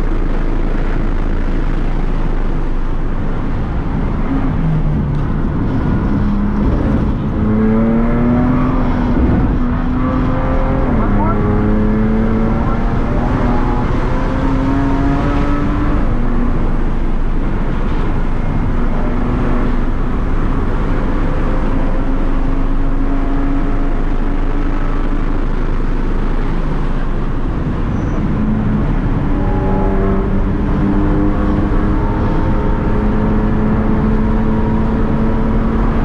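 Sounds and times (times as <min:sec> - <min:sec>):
car engine revving: 0:00.0 - 0:36.0
road and wind noise: 0:00.0 - 0:36.0.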